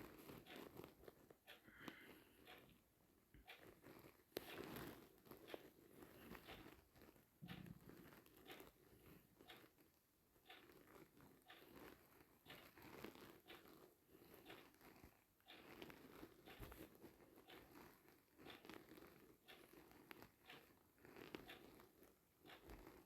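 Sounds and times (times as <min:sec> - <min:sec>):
faint crackles and rustles: 0:00.0 - 0:23.0.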